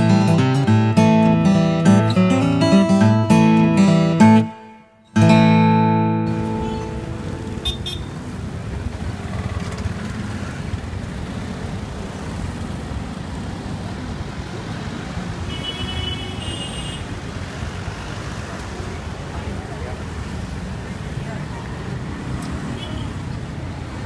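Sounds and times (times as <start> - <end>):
traffic engines rumbling: 0.0 - 24.0.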